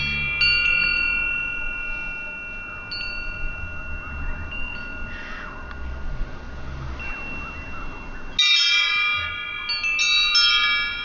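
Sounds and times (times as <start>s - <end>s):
metal wind chime ringing: 0.0s - 11.0s.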